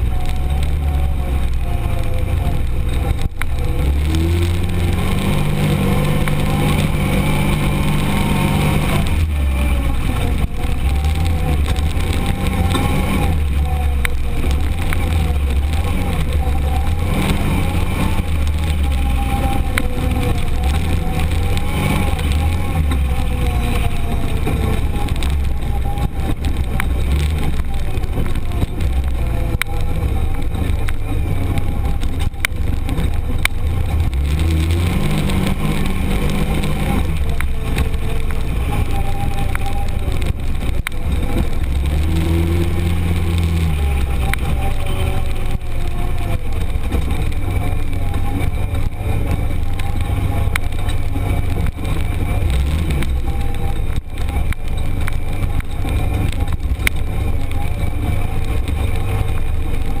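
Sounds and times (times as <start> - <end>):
engine running under load: 0.0 - 60.0.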